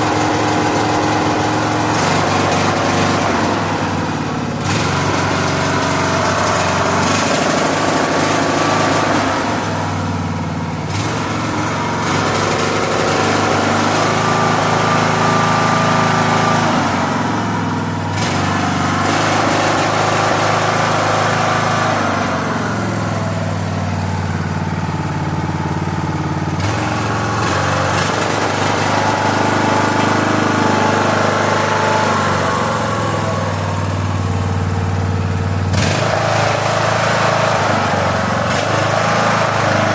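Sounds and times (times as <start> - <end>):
lawn tractor engine running unevenly: 0.0 - 39.9.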